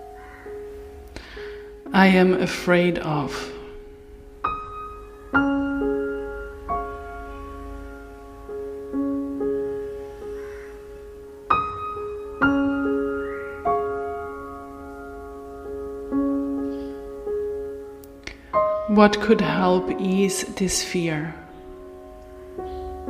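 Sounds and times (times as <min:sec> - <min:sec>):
slow soft piano music: 0:00.0 - 0:23.0.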